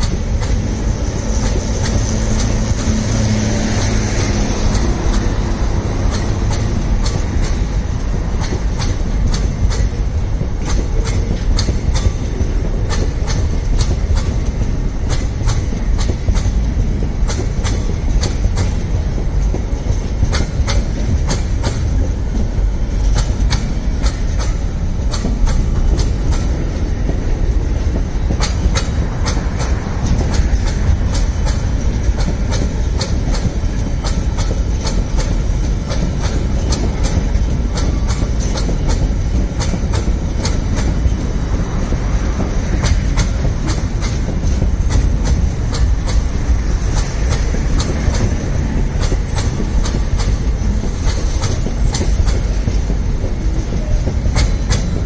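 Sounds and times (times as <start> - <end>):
freight train rumbling past: 0.0 - 55.0
wheels clickety-clack on rails: 0.0 - 55.0.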